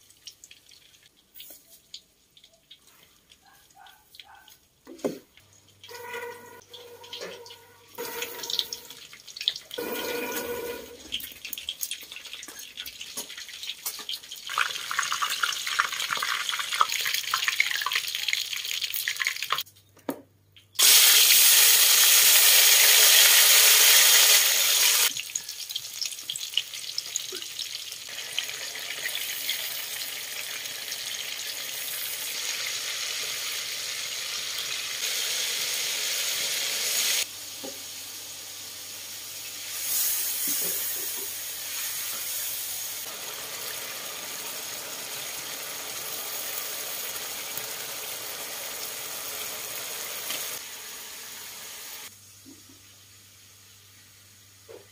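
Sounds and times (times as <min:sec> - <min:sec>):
tomatoes sizzling in hot oil: 0:05.8 - 0:19.7, 0:20.8 - 0:54.9.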